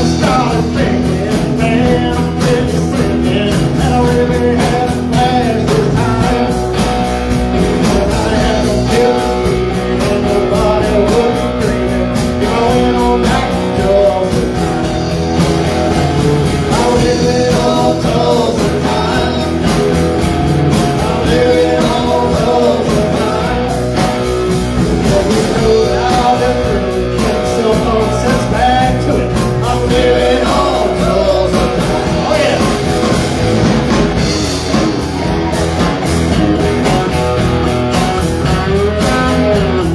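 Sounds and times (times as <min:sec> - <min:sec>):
country band playing live: 0:00.0 - 0:39.9.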